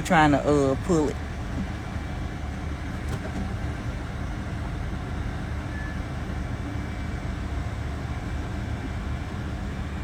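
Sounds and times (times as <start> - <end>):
diesel vehicles rumbling: 0.0 - 10.0
street traffic: 0.0 - 10.0.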